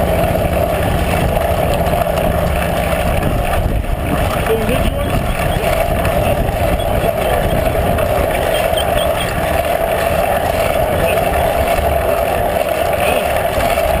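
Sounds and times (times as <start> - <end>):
low road rumble: 0.0 - 14.0
wind rushing over microphone: 0.0 - 14.0.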